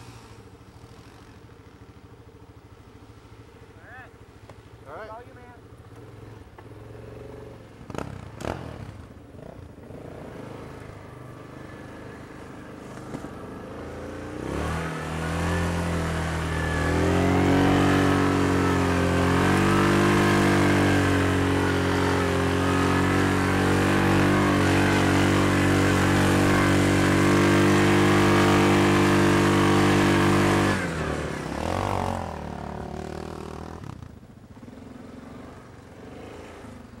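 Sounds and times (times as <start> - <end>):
quad engine revving: 6.0 - 36.8.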